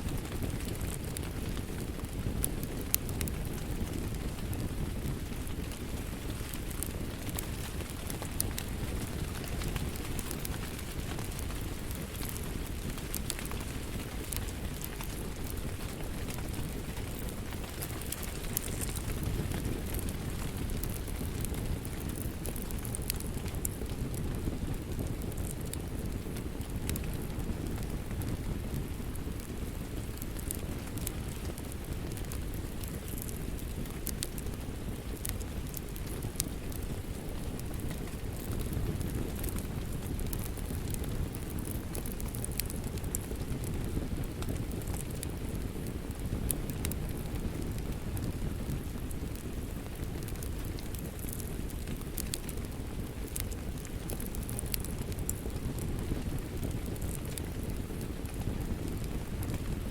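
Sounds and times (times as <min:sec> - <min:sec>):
steady rain: 0:00.0 - 0:59.9
wood fire crackling: 0:00.0 - 0:59.9.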